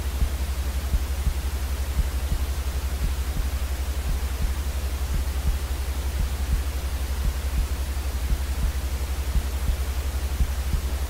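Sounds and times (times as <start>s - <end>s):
constant low rumble: 0.0s - 11.0s
faint low thumps: 0.0s - 11.0s
white noise hiss: 0.0s - 11.0s.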